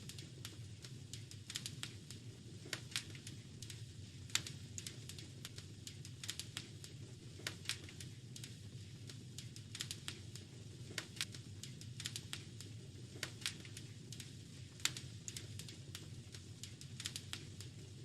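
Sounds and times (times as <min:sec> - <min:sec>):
fire low rumble: 0:00.0 - 0:18.0
wood fire crackling and popping: 0:00.0 - 0:18.0.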